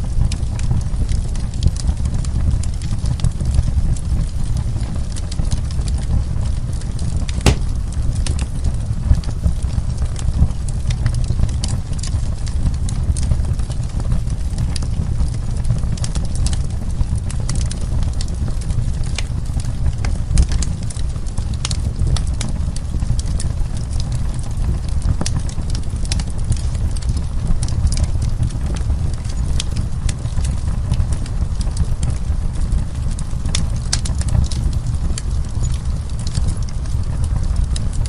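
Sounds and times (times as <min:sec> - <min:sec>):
wood fire crackling: 0:00.5 - 0:38.0.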